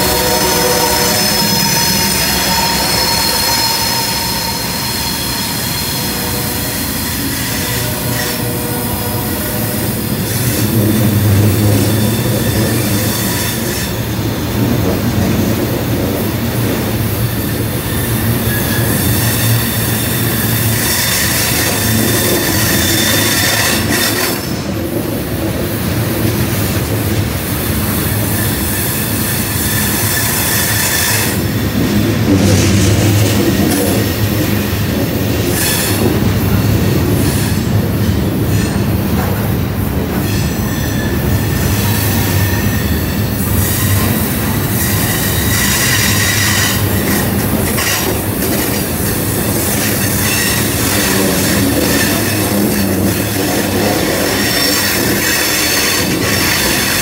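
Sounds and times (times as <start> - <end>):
freight train rumbling: 0.0 - 57.0
steel wheels squealing on rails: 0.0 - 57.0.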